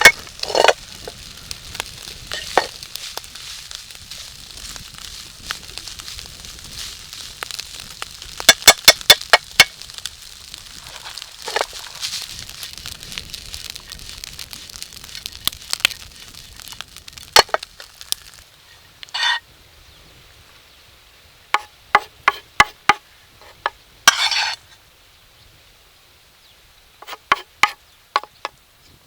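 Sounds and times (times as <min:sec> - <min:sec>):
rice sizzling in a pan: 0:00.0 - 0:28.6.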